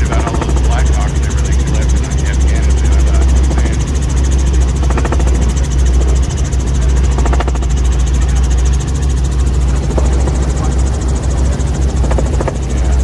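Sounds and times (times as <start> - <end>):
helicopter engine and rotors droning: 0.0 - 13.0.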